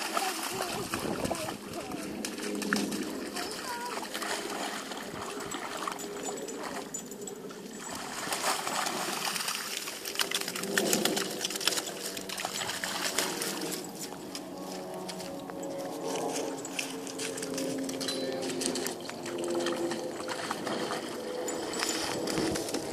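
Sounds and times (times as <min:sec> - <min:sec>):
water trickling: 0:00.0 - 0:14.6, 0:16.4 - 0:22.9
puppies splashing in stream: 0:00.0 - 0:22.9.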